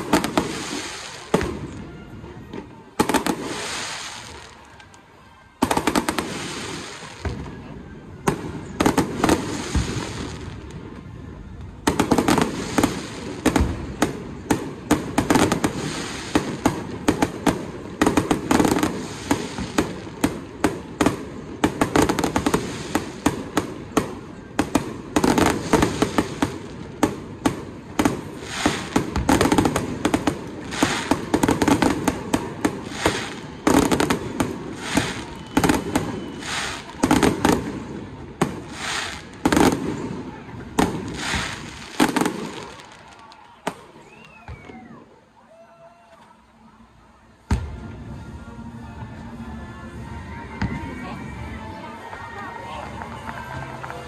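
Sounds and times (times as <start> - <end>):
fireworks bangs: 0.0 - 4.9, 5.5 - 45.1, 47.4 - 48.2
fireworks pops and crackles: 0.0 - 45.0, 47.4 - 48.0.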